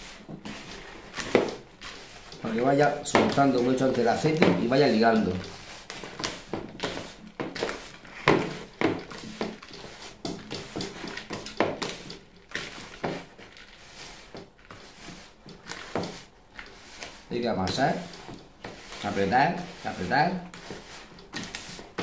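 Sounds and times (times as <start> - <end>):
hand kneading dough in bowl: 0.0 - 22.0.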